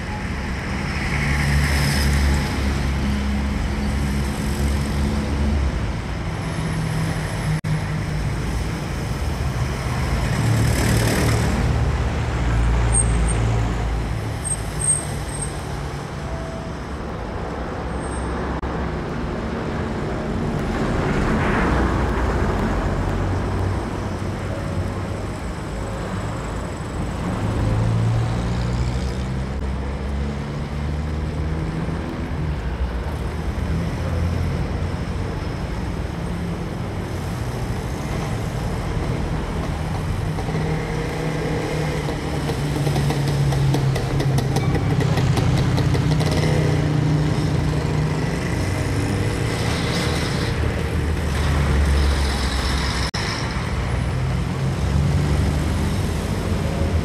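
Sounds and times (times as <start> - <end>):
low rumble of traffic: 0.0 - 57.0
vehicles passing close by: 0.0 - 57.0.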